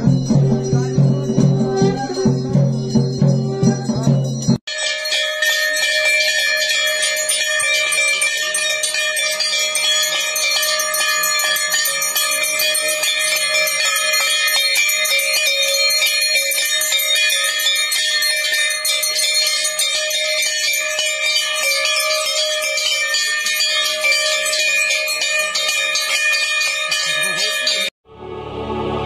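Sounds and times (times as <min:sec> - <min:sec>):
bells rung rapidly: 0:00.0 - 0:28.0.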